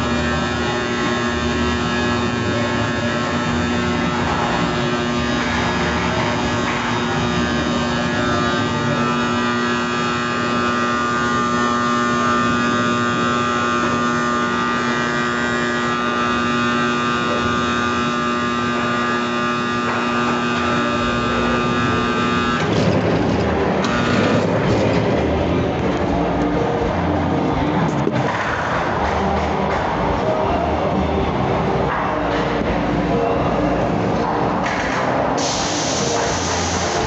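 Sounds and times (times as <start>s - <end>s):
machine hum with low tone: 0.0s - 37.0s.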